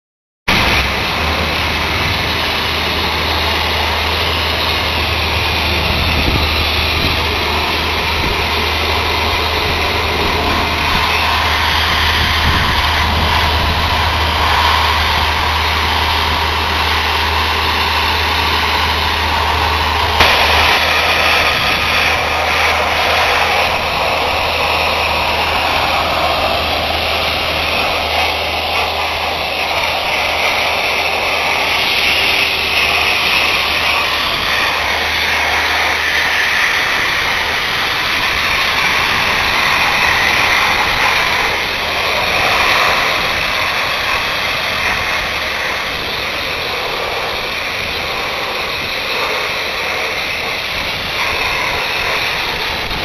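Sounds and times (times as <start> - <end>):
low engine drone: 0.5 - 53.0
sandblasting hiss: 0.5 - 53.0.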